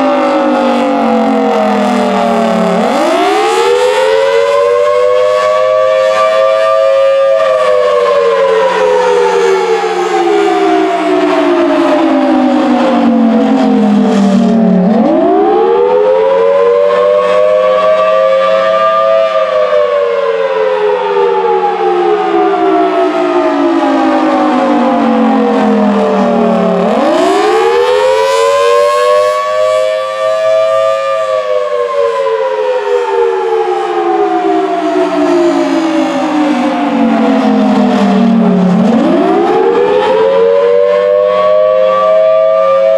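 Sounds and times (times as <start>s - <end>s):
warning siren rising and falling: 0.0s - 42.9s.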